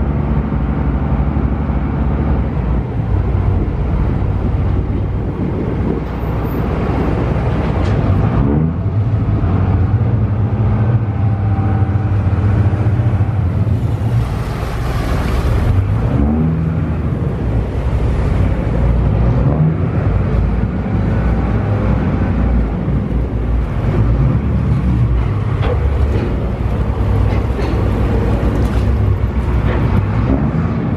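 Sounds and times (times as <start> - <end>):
ferry engine rumbling: 0.0 - 30.9
water noise: 0.0 - 30.9
wind: 0.0 - 30.9.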